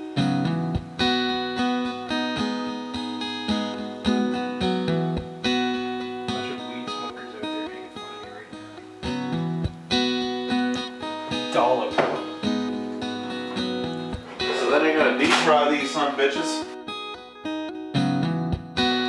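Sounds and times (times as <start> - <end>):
strummed guitar chords: 0.0 - 19.0.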